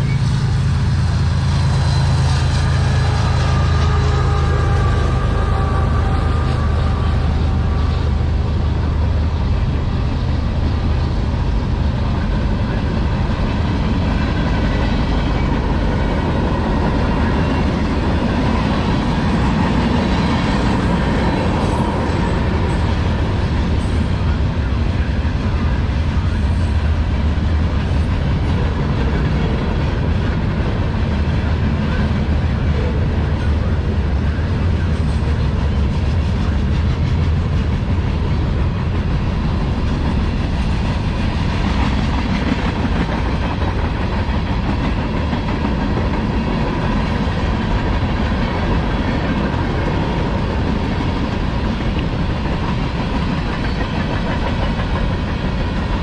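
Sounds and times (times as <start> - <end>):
freight train cars rolling past: 0.0 - 56.0.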